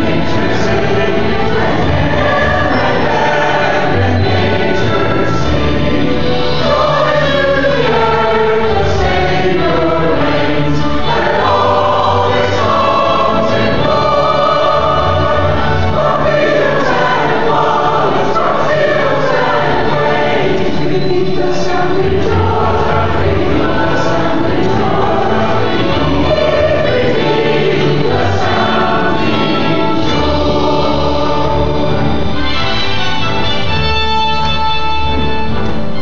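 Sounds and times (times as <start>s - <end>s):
choir singing in parts: 0.0s - 32.4s.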